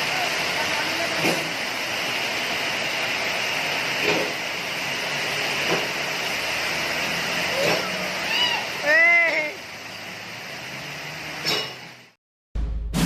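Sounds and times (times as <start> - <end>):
heavy rain and floodwater rushing: 0.0 - 11.4.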